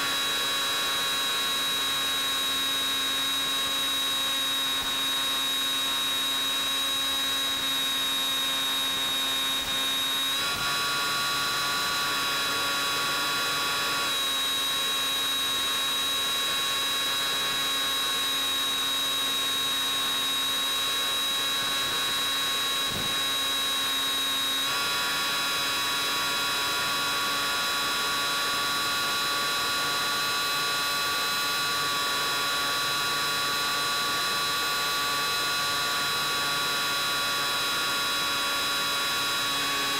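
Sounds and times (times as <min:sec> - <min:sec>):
electric motor whine and hum: 0:00.0 - 0:39.9.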